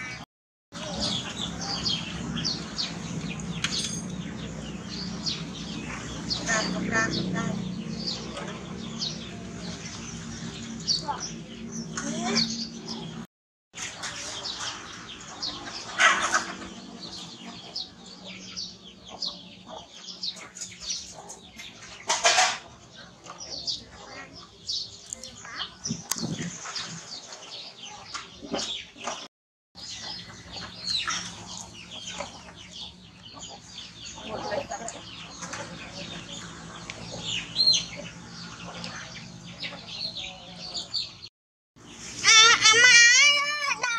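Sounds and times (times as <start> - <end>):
small birds chirping: 0.0 - 42.6.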